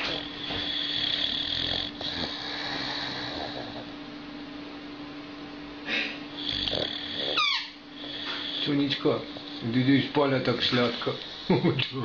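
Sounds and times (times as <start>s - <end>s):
dog snoring: 0.0s - 4.0s, 5.9s - 12.0s
low hum and hiss: 0.0s - 12.0s.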